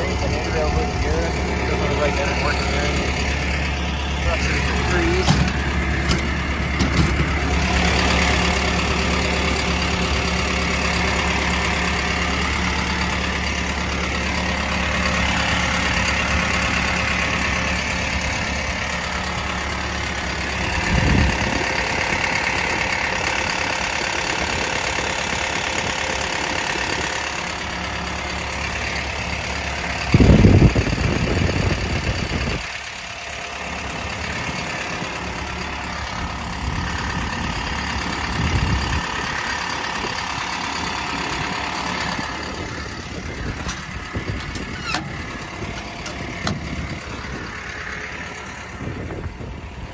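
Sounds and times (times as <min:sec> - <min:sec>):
excavator diesel engine idling: 0:00.0 - 0:49.9.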